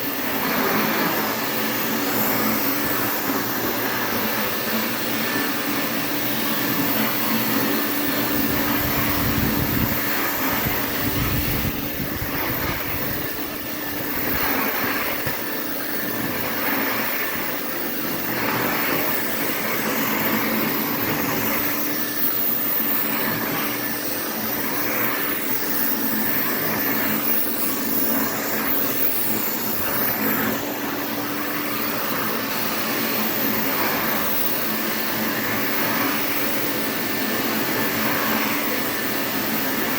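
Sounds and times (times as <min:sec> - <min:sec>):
vacuum cleaner motor hum: 0:00.0 - 0:39.9
vacuum rushing hiss: 0:00.0 - 0:39.9.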